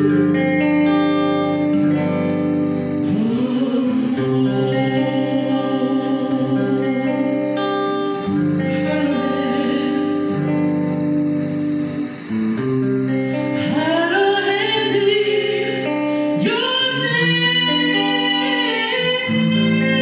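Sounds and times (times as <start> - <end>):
woman singing into a microphone: 0.0 - 12.4, 13.1 - 20.0
strummed guitar: 0.0 - 20.0.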